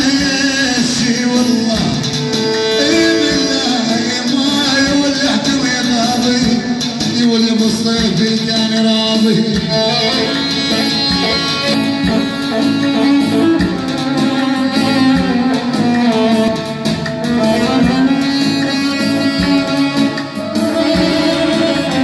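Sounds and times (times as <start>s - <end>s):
keyboard plucked-string melody: 0.0s - 22.0s.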